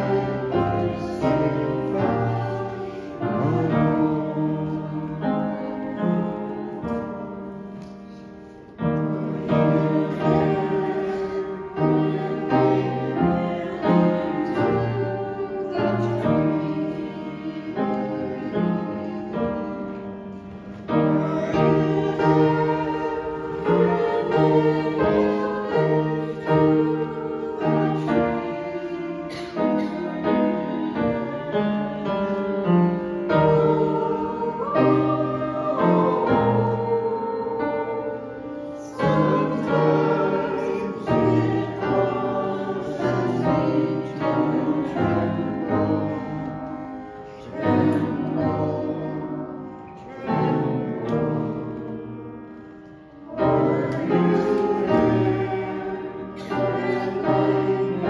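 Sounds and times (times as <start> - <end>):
group of voices singing: 0.0 - 7.5, 8.1 - 58.0
piano playing a hymn: 0.0 - 58.0.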